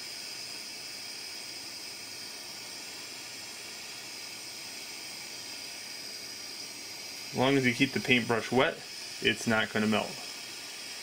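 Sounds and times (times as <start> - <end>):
gas torch flame hissing: 0.0 - 11.0.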